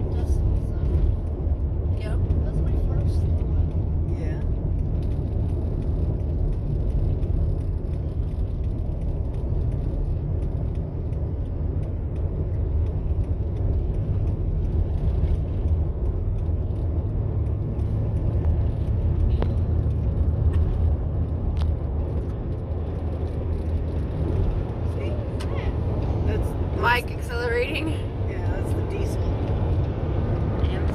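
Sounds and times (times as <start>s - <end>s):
vehicle cabin road rumble: 0.0s - 30.9s.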